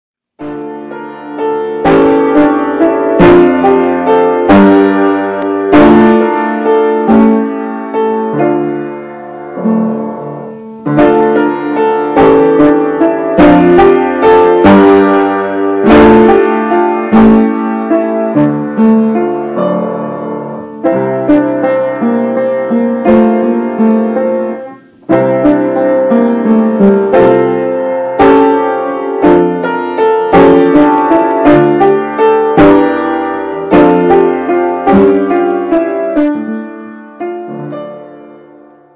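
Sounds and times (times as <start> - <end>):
piano music: 0.4 - 38.9.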